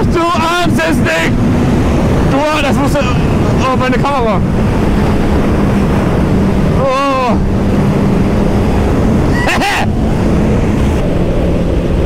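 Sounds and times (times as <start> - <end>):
motorcycle engine at high revs: 0.0 - 12.0
wind rush on microphone: 0.0 - 12.0.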